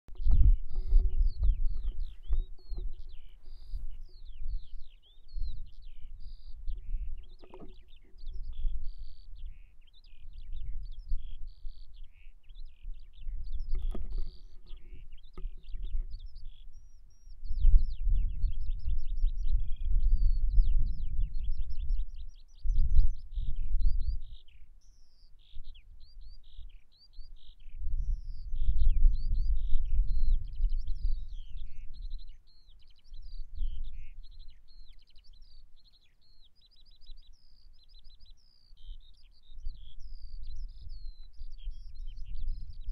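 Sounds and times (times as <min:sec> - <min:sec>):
small birds singing: 0:00.1 - 0:42.9.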